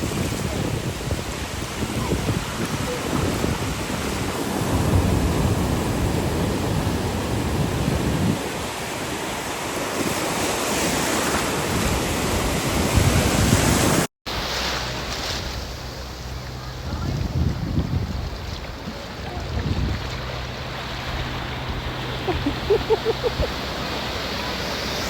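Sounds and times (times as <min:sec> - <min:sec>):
wind buffeting microphone: 0:00.0 - 0:09.2, 0:10.8 - 0:14.1, 0:16.5 - 0:24.2
ocean surf washing ashore: 0:00.0 - 0:25.0.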